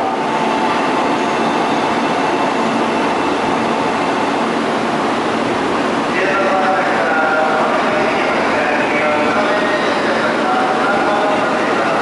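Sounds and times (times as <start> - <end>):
train equipment humming and hissing: 0.0 - 12.0.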